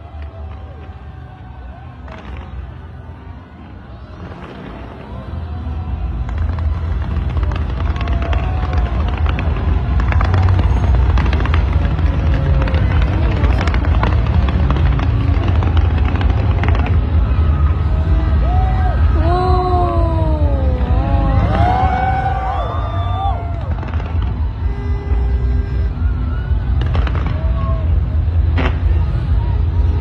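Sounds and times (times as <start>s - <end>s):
fireworks bursting: 0.0s - 30.0s
fireworks crackles: 0.0s - 30.0s.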